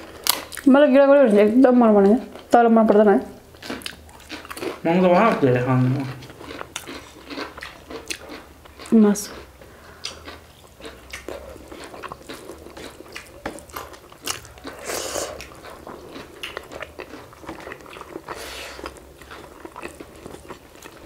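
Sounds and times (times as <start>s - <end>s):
chewing and mouth smacks: 3.5s - 5.4s, 6.0s - 21.0s.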